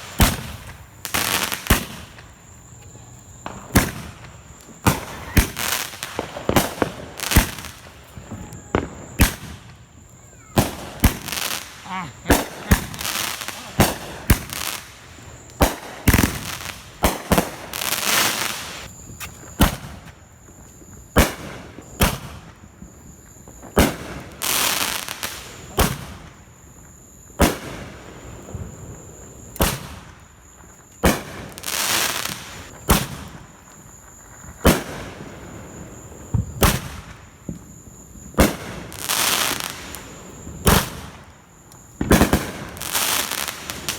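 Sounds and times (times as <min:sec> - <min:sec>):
fireworks bangs: 0:00.0 - 0:26.4, 0:27.4 - 0:30.3, 0:31.0 - 0:43.9
fireworks hissing and crackling: 0:00.0 - 0:43.9.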